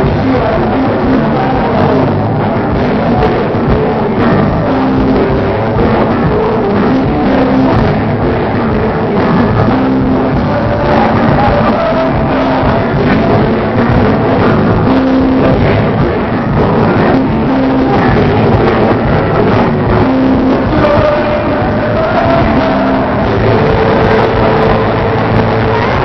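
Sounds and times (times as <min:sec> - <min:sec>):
live band playing rock music: 0:00.0 - 0:26.0.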